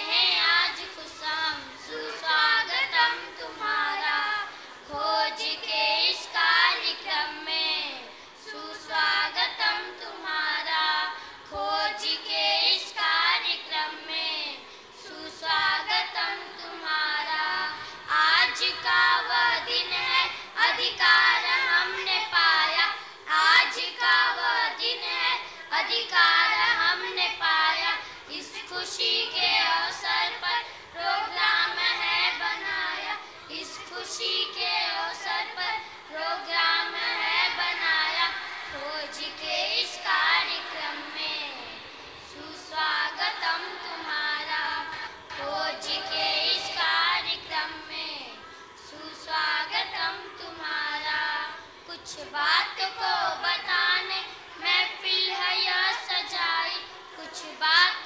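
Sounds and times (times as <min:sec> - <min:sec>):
girls singing together: 0:00.0 - 0:58.0.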